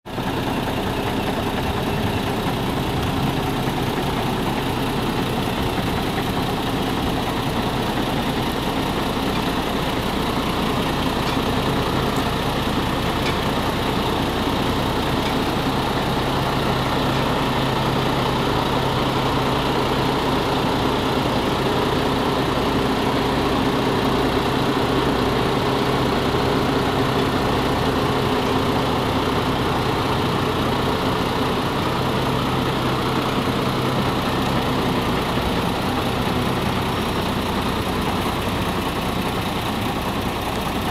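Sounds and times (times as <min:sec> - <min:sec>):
diesel truck engine idling: 0:00.1 - 0:40.9.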